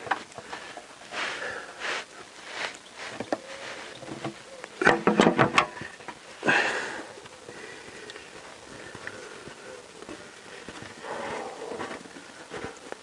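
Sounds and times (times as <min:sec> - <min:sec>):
man breathing and sniffing: 0:00.2 - 0:04.0, 0:05.7 - 0:13.0.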